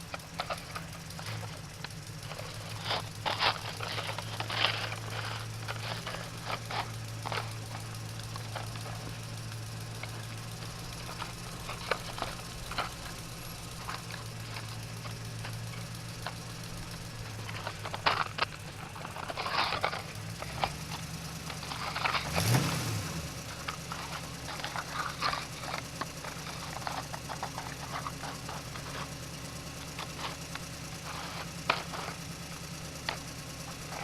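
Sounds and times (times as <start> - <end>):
light clicks and crunches: 0.0 - 34.0
low motor hum: 0.0 - 34.0.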